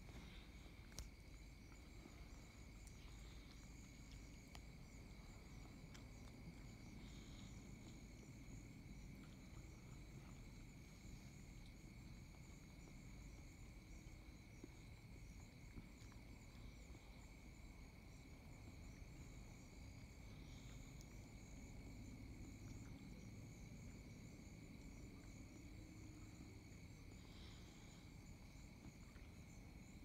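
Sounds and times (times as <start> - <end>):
constant low rumble: 0.0 - 30.0
insect chorus trilling: 0.0 - 30.0.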